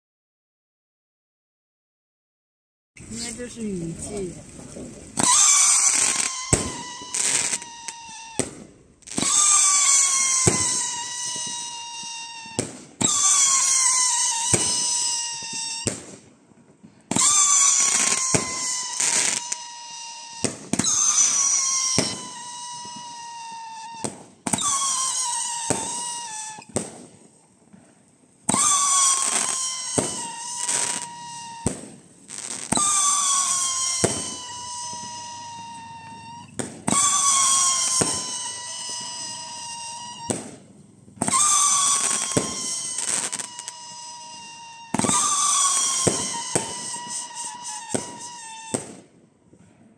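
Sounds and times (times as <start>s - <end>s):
firework pops and bangs: 4.0s - 49.9s
firework whistles: 5.1s - 49.9s.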